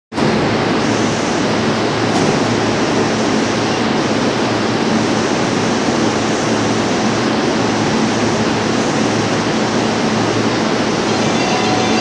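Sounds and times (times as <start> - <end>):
electric train standing humming: 0.3 - 12.0.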